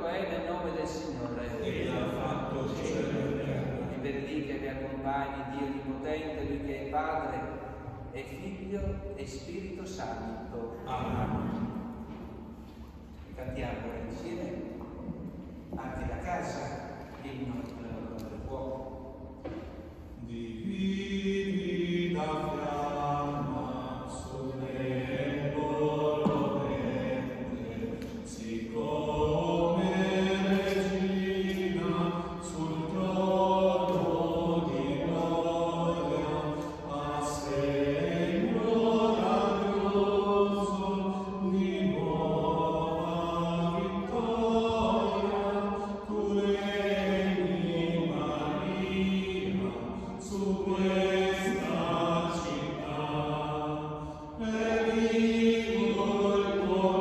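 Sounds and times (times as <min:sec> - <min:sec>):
men singing a slow hymn: 0:00.9 - 0:13.2, 0:15.2 - 0:57.0.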